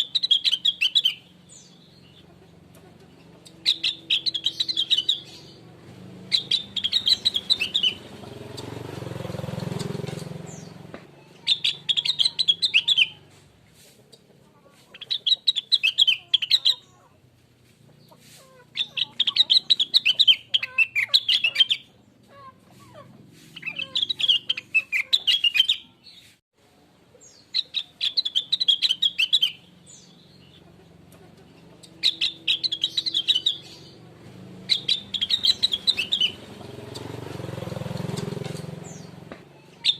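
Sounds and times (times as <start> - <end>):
bird chirping song: 0.0 - 17.2, 17.8 - 26.4, 27.1 - 39.9.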